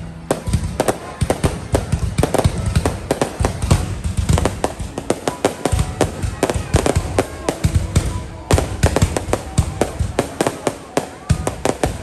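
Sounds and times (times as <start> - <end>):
deep fireworks booms: 0.0 - 12.0
fireworks bangs and crackles: 0.0 - 12.0.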